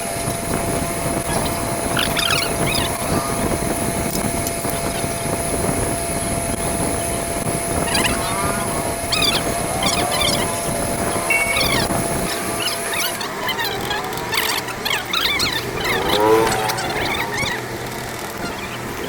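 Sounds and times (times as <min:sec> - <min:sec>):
birds chirping: 0:00.0 - 0:19.0
motorcycle engine rumbling: 0:00.0 - 0:19.0.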